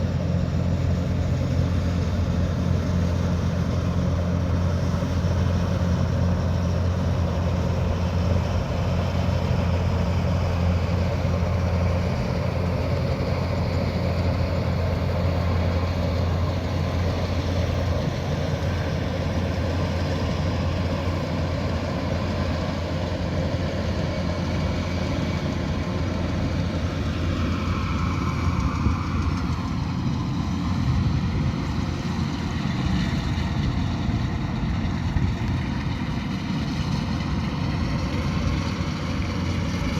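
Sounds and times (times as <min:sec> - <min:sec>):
combine harvester engine drone: 0:00.0 - 0:39.9
threshing machinery noise: 0:00.0 - 0:39.9.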